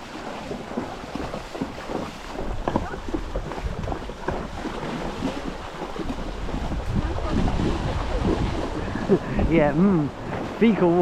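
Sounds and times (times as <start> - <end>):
river water splashing: 0.0 - 11.0
wind rumbling on microphone: 0.0 - 11.0.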